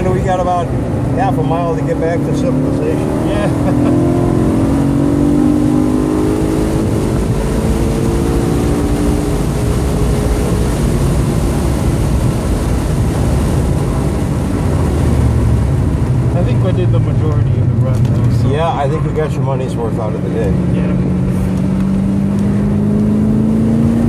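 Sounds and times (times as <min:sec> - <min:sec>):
car engine accelerating: 0:00.0 - 0:24.0
road and wind noise: 0:00.0 - 0:24.0.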